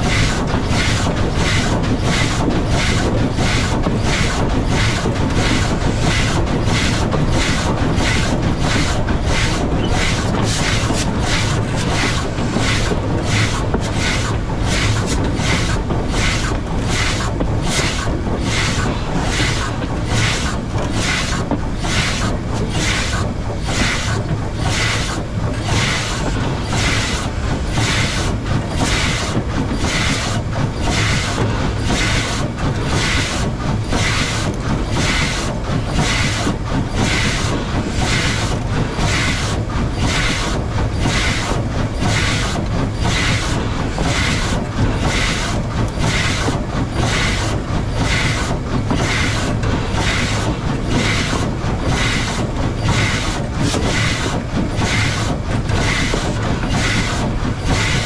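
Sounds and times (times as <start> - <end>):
running gear rumbling on rails: 0.0 - 58.0
steam locomotive exhaust chuffing: 0.0 - 58.0.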